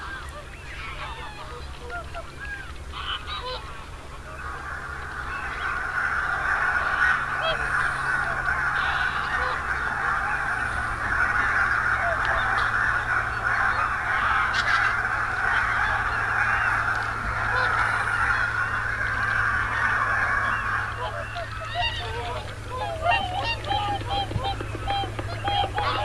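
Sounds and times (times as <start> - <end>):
flock of geese honking: 0.0 - 26.0.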